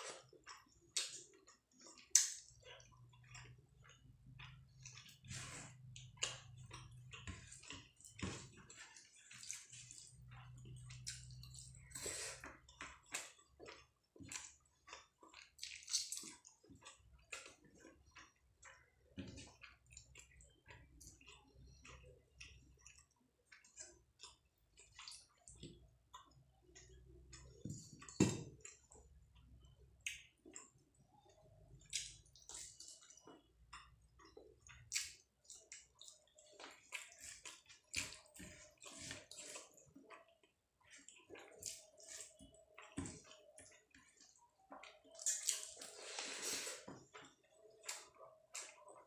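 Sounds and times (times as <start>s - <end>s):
wet chewing and lip smacks: 0.1s - 49.0s.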